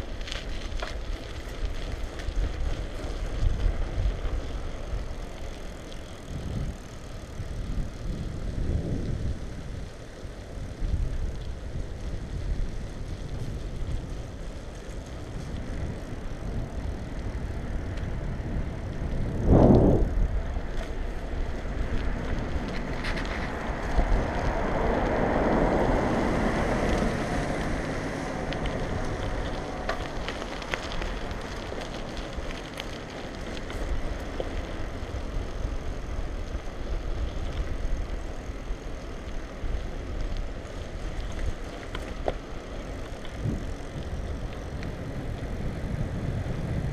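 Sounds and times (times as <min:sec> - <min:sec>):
bicycle rattles: 0:00.0 - 0:46.9
tyres rumbling on asphalt: 0:00.0 - 0:46.9
wind buffeting microphone: 0:00.0 - 0:46.9.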